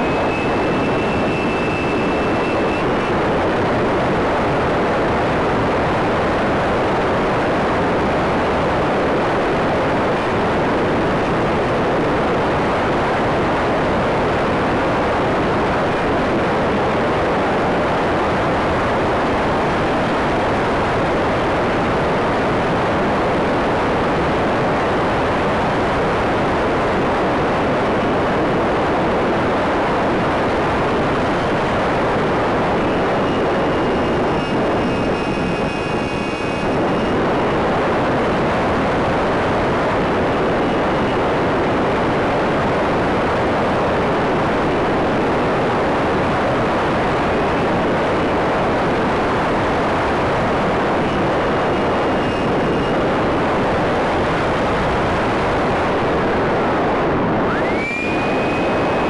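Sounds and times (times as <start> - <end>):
faint high whine: 0.0 - 59.0.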